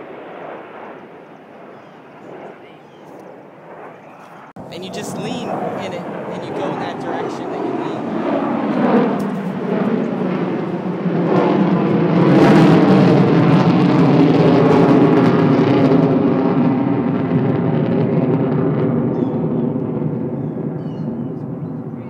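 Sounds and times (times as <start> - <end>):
aircraft engine flying over: 0.0 - 22.0.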